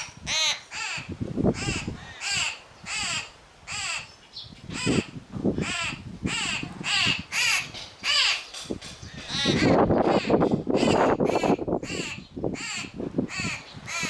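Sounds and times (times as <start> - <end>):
fledgling begging calls: 0.0 - 14.0.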